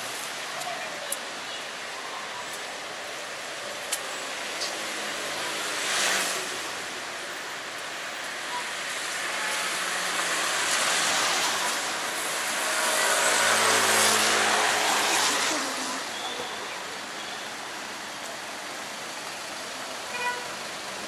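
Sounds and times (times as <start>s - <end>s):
street noise: 0.0s - 21.0s
tyre hiss on wet road: 0.0s - 21.0s.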